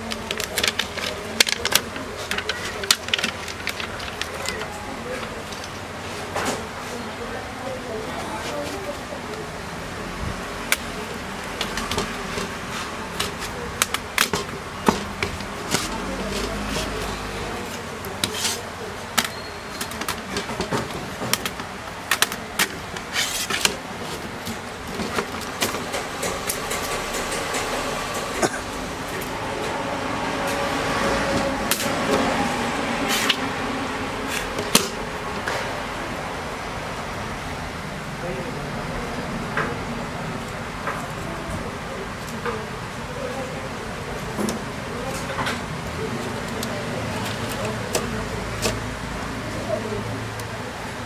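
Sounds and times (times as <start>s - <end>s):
steady background noise: 0.0s - 51.0s.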